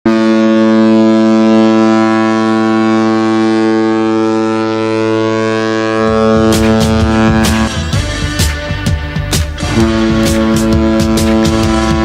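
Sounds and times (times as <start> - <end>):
goal horn blast: 0.1 - 12.0.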